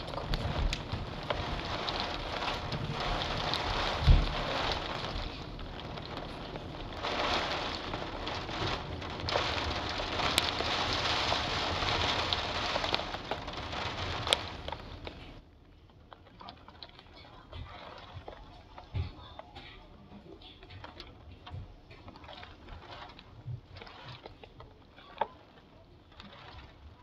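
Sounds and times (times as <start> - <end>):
raindrops ticking nearby: 0.0 - 27.0
steady rain hiss: 0.0 - 27.0.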